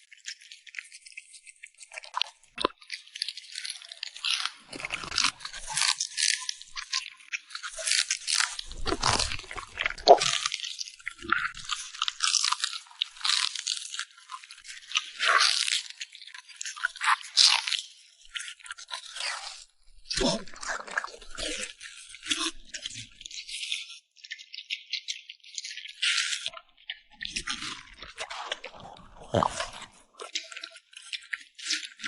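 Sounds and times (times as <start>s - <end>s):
dog crunching and chewing food: 0.1s - 32.0s.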